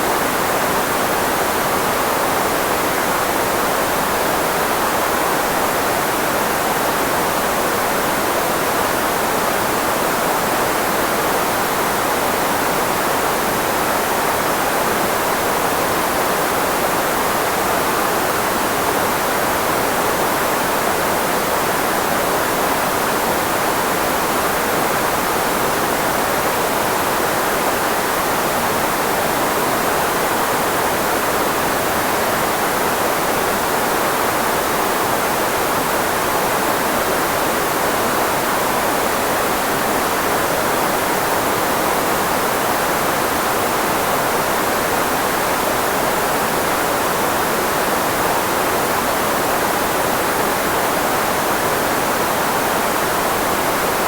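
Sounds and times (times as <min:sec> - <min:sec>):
filtered white noise: 0:00.0 - 0:54.0.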